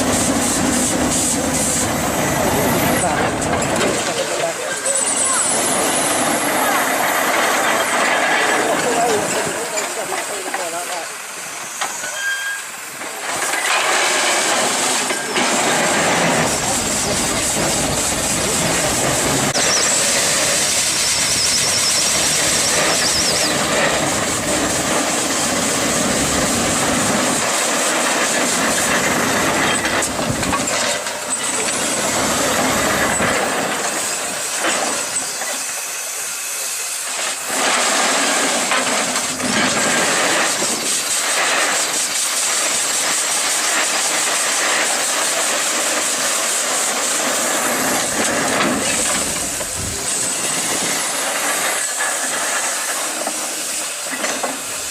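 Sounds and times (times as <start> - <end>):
steam hissing: 0.0 - 54.9.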